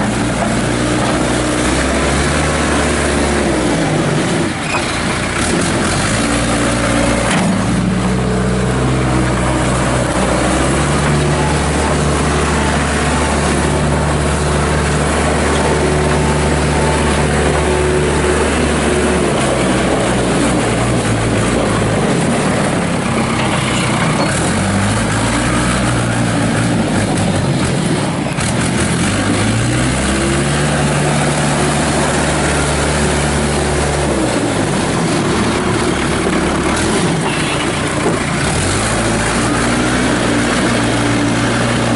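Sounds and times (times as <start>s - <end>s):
diesel engine revving: 0.0s - 41.9s.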